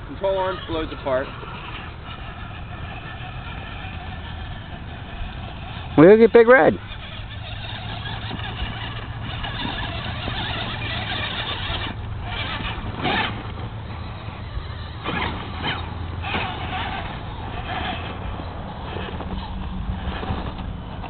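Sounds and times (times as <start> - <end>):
electric motor and gears whining: 0.0 - 21.0
steady low hum: 0.0 - 21.0.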